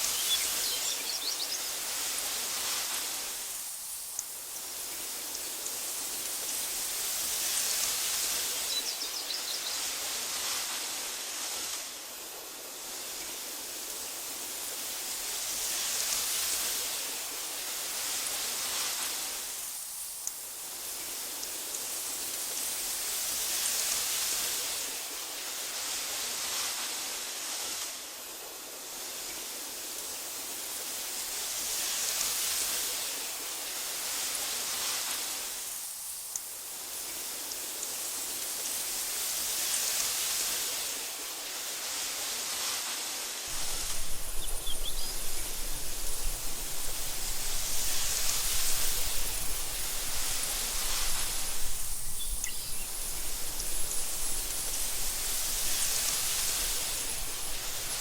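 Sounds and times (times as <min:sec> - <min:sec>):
wind through tall grass: 0:00.0 - 0:58.0.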